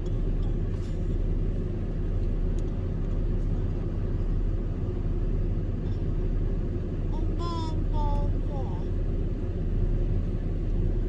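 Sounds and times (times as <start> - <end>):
truck engine and tyre rumble: 0.0 - 11.0.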